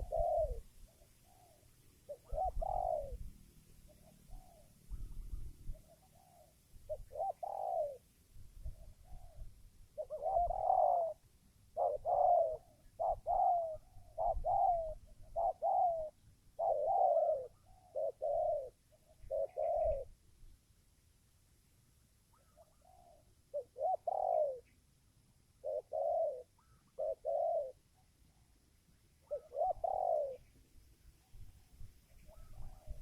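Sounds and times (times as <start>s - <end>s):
dove cooing: 0.0s - 20.2s, 22.3s - 24.8s, 25.5s - 28.5s, 29.2s - 30.7s, 32.1s - 33.0s.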